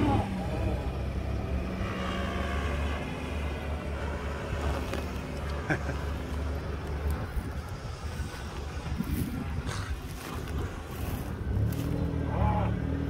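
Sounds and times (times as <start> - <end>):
engines running under load: 0.0 - 13.0.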